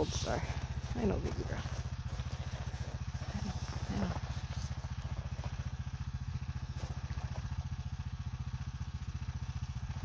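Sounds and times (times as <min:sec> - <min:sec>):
atv engine running at low speed: 0:00.0 - 0:10.0.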